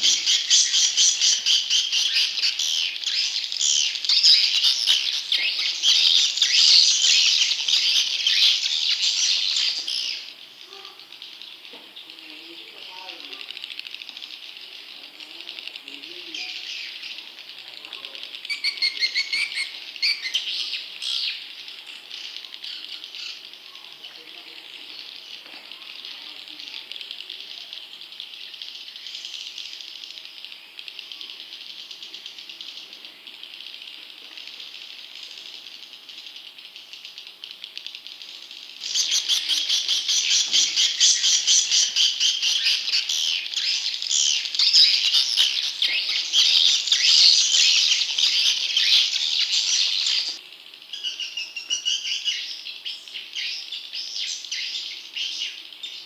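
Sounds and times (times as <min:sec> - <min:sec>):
young swiftlets twittering: 0:00.0 - 0:56.0.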